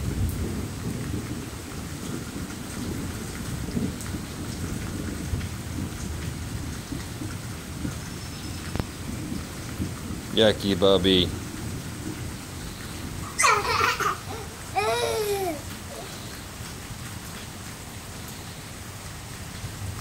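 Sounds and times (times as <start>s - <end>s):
rain on concrete: 0.0s - 20.0s.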